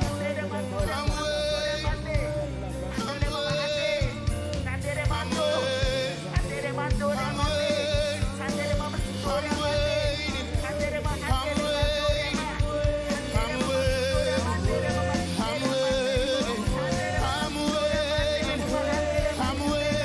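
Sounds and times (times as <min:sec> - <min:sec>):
band accompaniment: 0:00.0 - 0:20.0
person singing with vibrato: 0:00.0 - 0:20.0
regular drum beat: 0:00.0 - 0:20.0.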